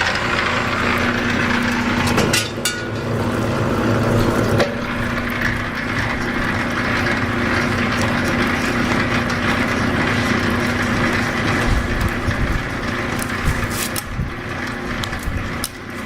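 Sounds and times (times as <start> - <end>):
cable rattling through rollers: 0.0 - 16.0
machine motor humming: 0.0 - 16.0.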